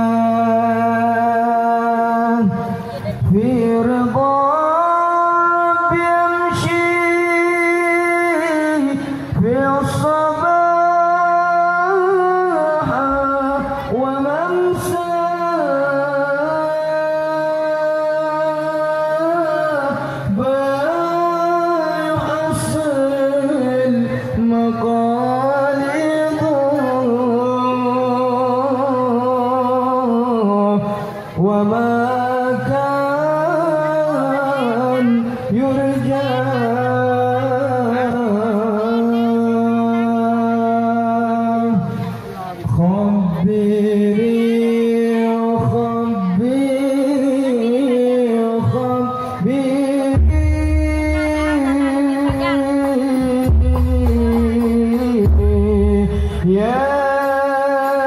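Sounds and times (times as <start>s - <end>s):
person singing devotional song: 0.0s - 58.0s.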